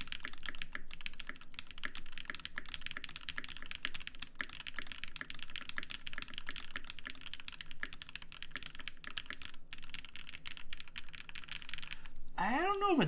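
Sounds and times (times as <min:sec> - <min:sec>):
mechanical keyboard typing: 0:00.0 - 0:12.2.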